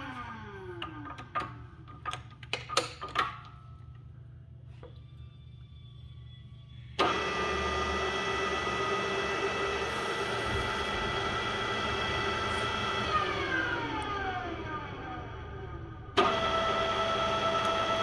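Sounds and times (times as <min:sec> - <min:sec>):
drill press whirring with gear whine: 0:00.0 - 0:02.6, 0:03.8 - 0:18.0.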